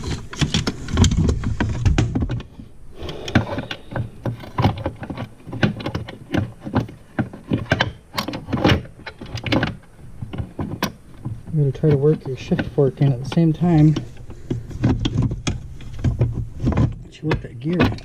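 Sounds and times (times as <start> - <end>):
metal parts clicking and knocking: 0.0 - 18.0.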